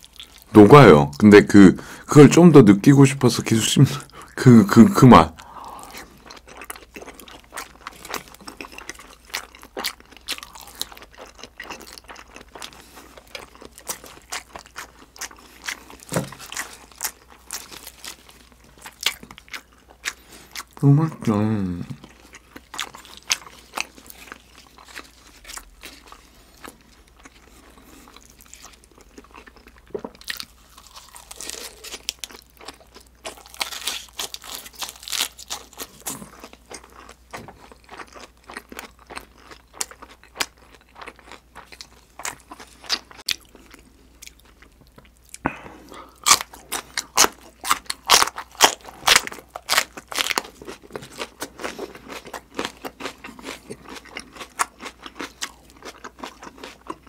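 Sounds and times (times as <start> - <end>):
person chewing and crunching: 0.0 - 1.2, 3.6 - 57.0.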